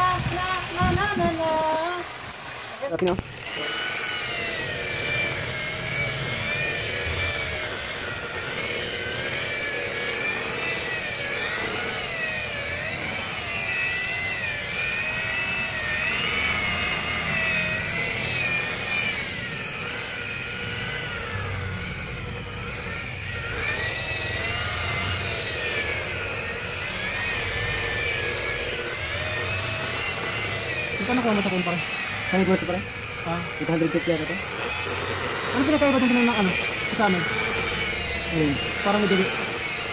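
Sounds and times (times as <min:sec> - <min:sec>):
angle grinder motor whine: 0:00.0 - 0:39.9.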